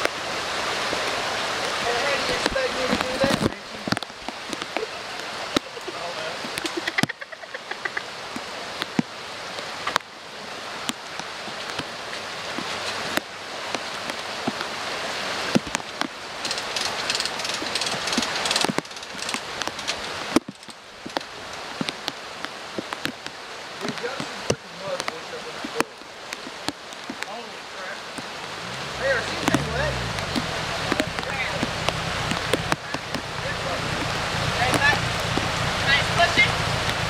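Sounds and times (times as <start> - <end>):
raindrops tapping close by: 0.0 - 37.0
steady rain: 0.0 - 37.0.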